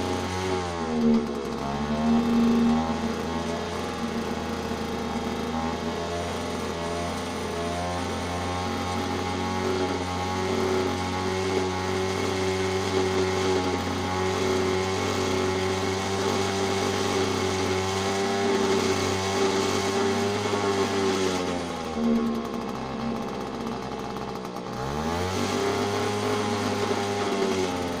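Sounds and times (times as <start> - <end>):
moped engine running: 0.0 - 28.0.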